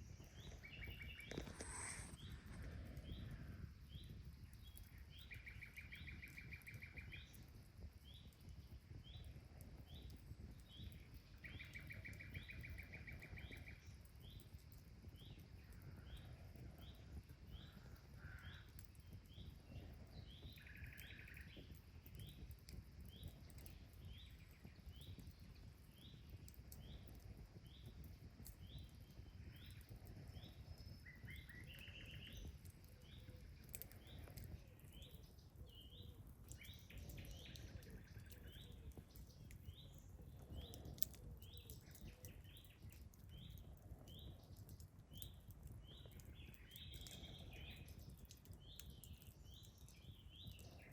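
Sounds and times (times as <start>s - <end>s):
faint crackles: 0.0s - 50.9s.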